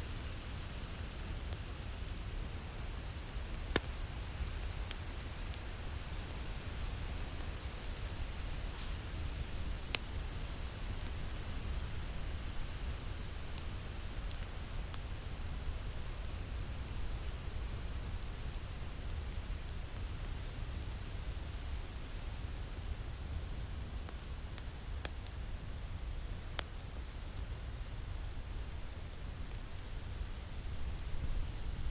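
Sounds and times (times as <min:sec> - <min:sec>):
constant hiss: 0:00.0 - 0:31.9
fire crackling and popping: 0:00.0 - 0:31.9.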